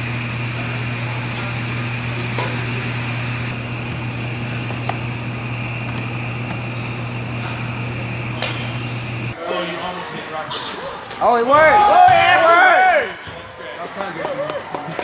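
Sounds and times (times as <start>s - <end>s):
ventilation fans humming: 0.0s - 15.0s.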